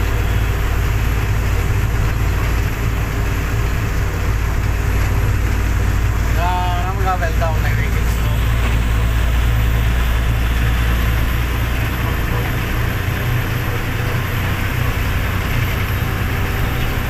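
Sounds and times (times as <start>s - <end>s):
diesel lorry engine drone: 0.0s - 17.0s
tyre and road noise: 0.0s - 17.0s.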